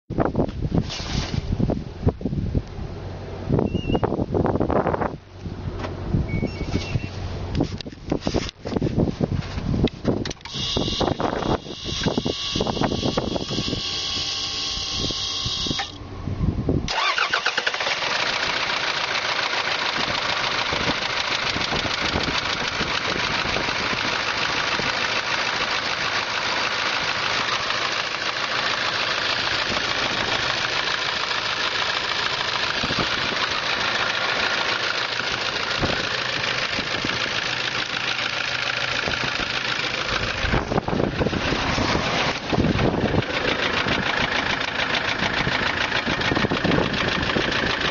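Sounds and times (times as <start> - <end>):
diesel engine starting and running: 0.1 - 47.9.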